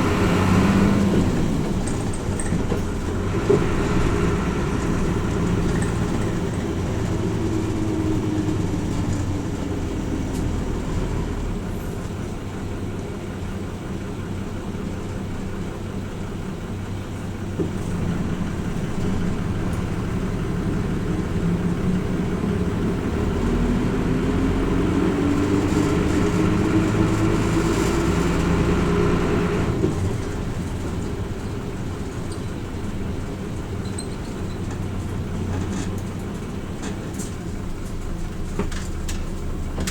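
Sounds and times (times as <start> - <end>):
bus diesel engine: 0.0 - 39.9
low road noise rumble: 0.0 - 39.9.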